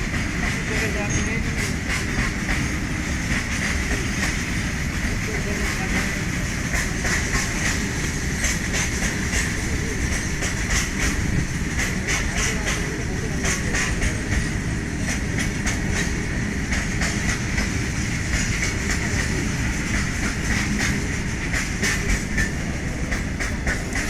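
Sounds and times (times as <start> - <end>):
freight train rumbling past: 0.0 - 24.0
wheels clicking over rail joints: 0.0 - 24.0.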